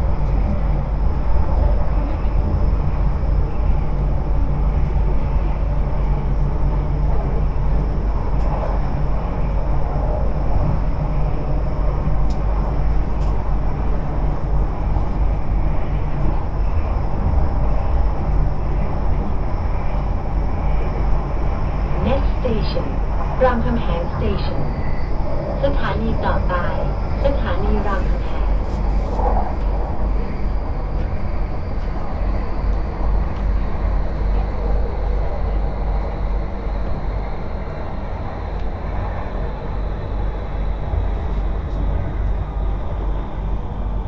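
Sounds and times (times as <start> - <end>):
train low rumble: 0.0 - 44.0.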